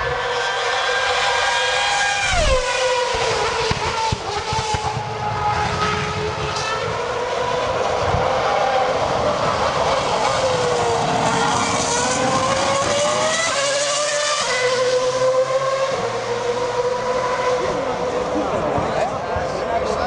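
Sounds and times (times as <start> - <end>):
race car engine at high revs: 0.0 - 20.0.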